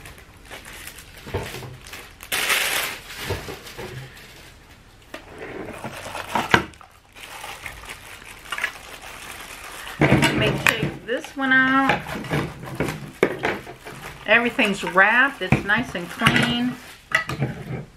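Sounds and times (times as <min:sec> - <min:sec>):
plastic packaging crinkling: 0:00.0 - 0:17.8.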